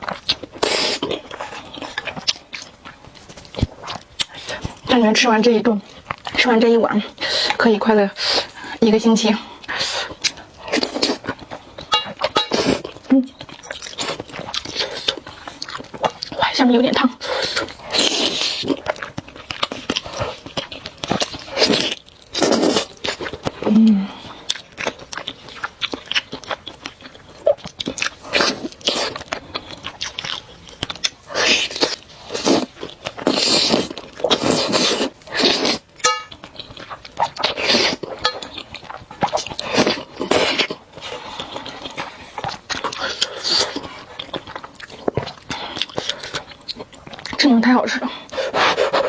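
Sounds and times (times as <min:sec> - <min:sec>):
wet chewing: 0:00.0 - 0:49.0.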